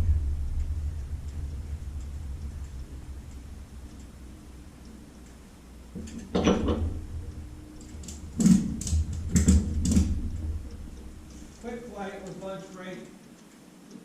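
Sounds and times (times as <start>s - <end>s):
knocks and clunks: 0.0s - 12.5s
low steady hum: 0.0s - 14.0s.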